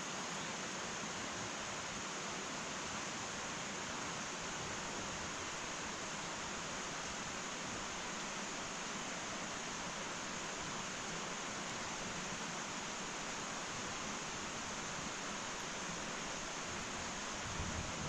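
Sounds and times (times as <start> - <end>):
fire hissing in a hearth: 0.0 - 18.0.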